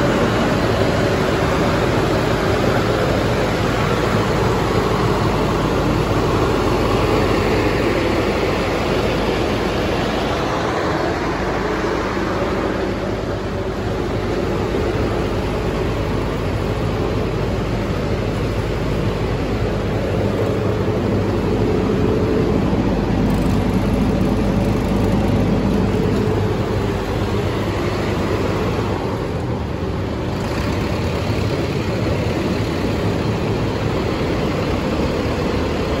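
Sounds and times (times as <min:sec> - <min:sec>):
diesel generator running: 0:00.0 - 0:36.0.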